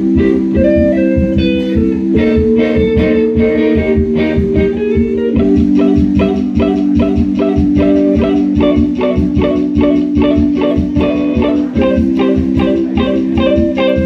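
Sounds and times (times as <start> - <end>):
bass guitar: 0.0 - 14.0
drums: 0.0 - 14.0
electric guitars picking: 0.0 - 14.0.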